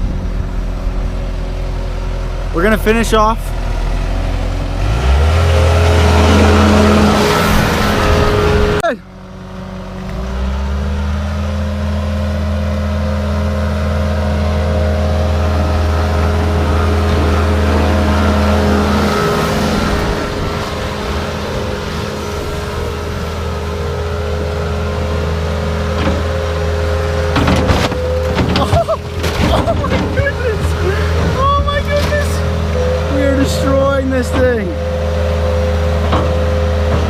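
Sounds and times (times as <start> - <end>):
loader engine running: 0.0 - 37.0.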